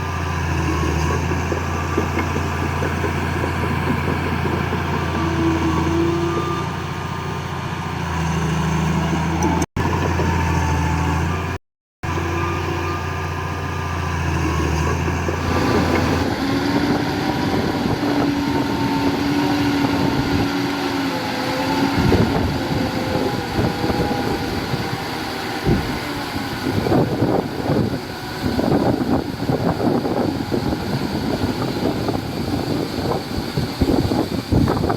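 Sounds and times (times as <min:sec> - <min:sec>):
diesel engine of heavy machinery: 0:00.0 - 0:34.9.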